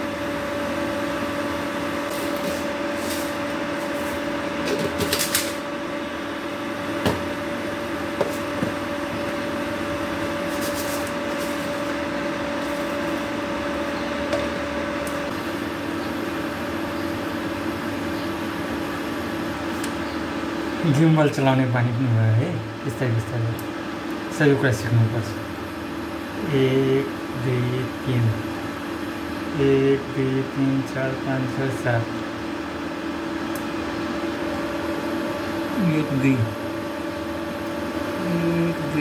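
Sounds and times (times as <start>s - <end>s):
electric fan motor hum: 0.0s - 39.0s.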